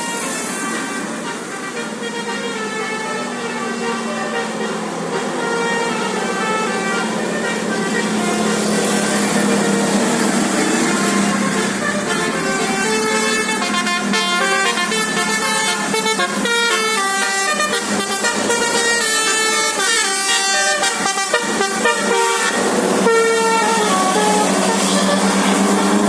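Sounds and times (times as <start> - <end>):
musical air horn melody: 0.0 - 26.0.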